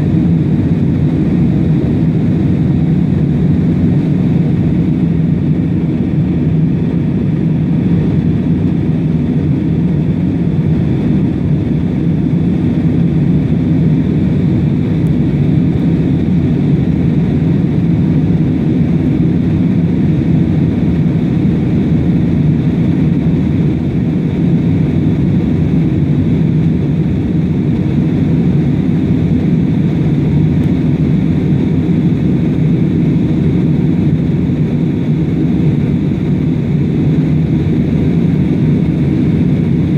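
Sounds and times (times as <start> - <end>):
airplane engines rumbling: 0.0 - 39.9.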